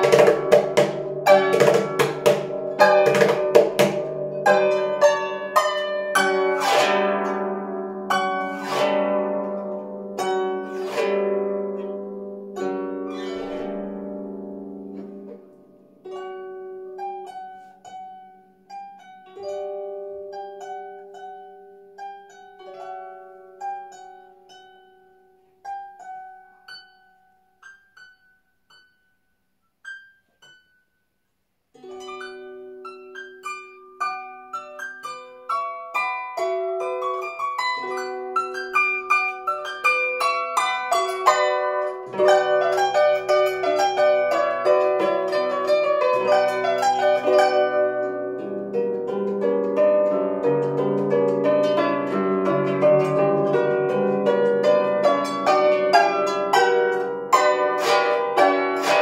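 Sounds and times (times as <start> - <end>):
harp chords and plucked notes: 0.0 - 29.1, 31.8 - 59.0.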